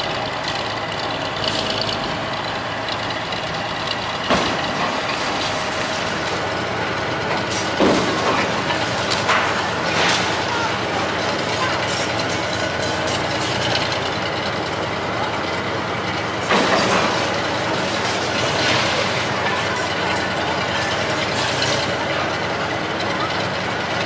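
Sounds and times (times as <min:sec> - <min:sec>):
crane engine running: 0:00.0 - 0:24.0
machinery clattering: 0:00.0 - 0:24.0.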